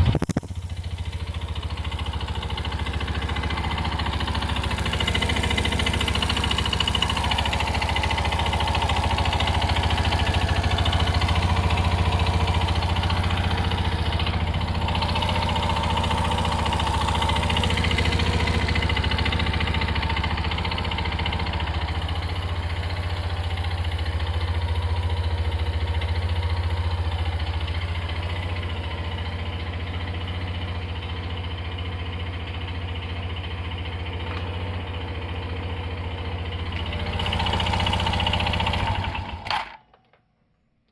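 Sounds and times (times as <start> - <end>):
scooter engine knocking rattle: 0.0 - 39.8.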